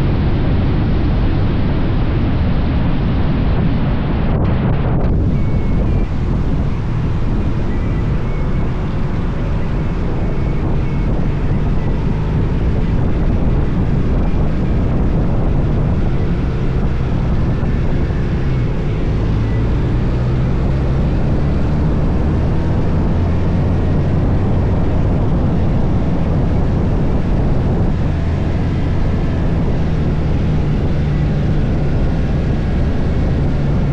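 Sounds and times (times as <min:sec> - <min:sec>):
wind noise on microphone: 0:00.0 - 0:33.9
motorcycle engine running: 0:04.4 - 0:33.9.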